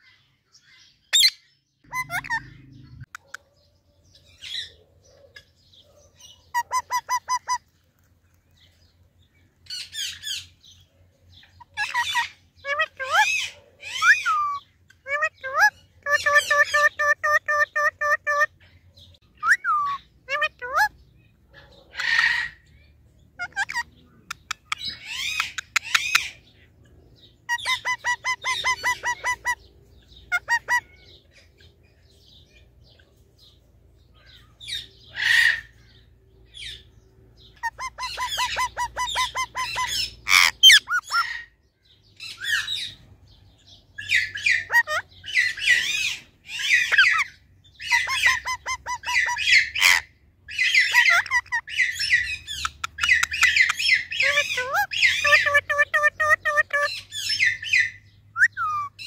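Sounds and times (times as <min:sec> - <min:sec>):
parakeets calling and squawking: 0:00.0 - 0:03.4, 0:04.2 - 0:07.8, 0:08.6 - 0:59.0.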